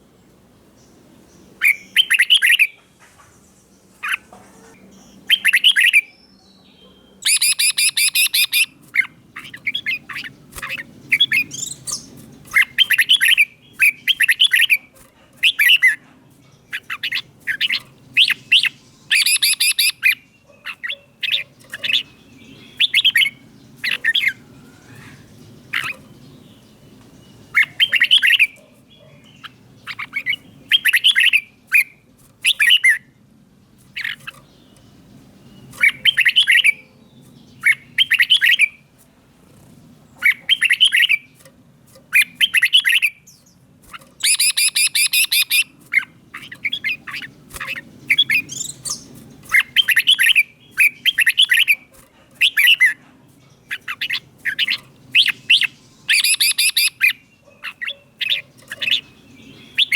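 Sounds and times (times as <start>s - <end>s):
bulbul singing: 0.0s - 59.9s.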